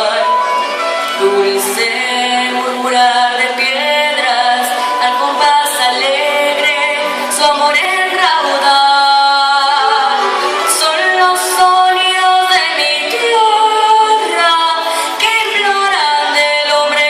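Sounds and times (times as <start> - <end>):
girl singing: 1.2 - 17.0.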